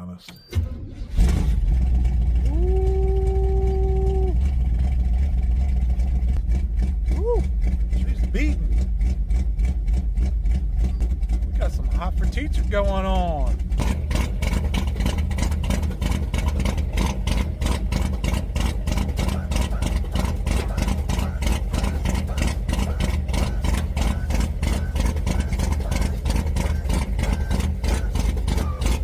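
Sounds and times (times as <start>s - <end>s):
car engine idling: 0.8s - 29.0s.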